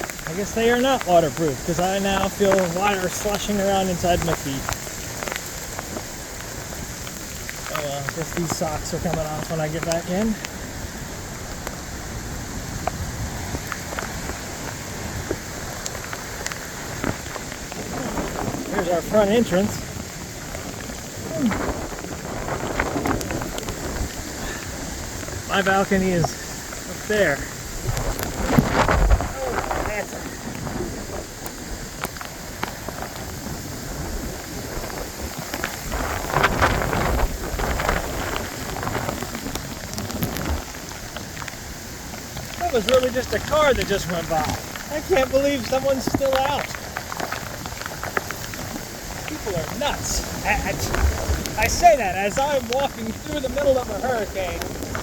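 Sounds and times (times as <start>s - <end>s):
heavy rain: 0.0s - 55.0s
tyres hissing through water: 0.0s - 55.0s.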